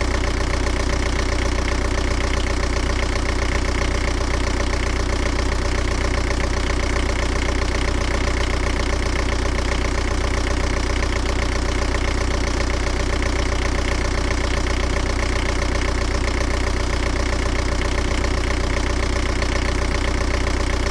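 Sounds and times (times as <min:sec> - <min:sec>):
engine idling: 0:00.0 - 0:20.9.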